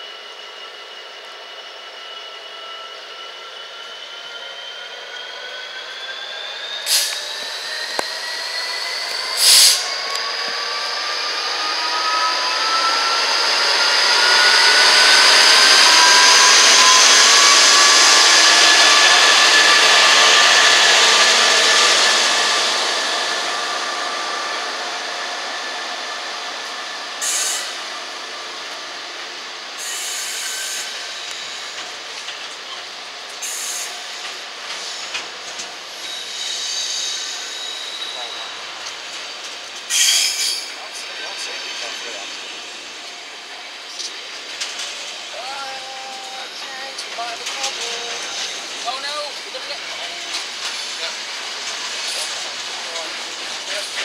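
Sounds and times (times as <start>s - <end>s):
locomotive engine and turbo whine: 0.0s - 54.0s.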